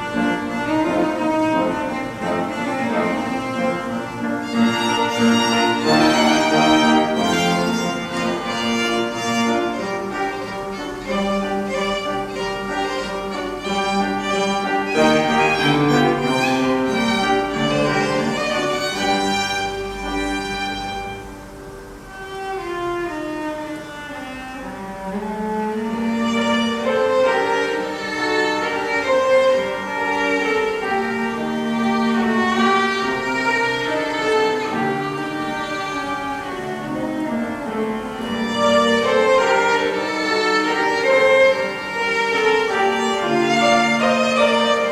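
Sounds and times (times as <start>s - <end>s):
piano: 0.0s - 44.9s
violin and cello bowed notes: 0.0s - 44.9s.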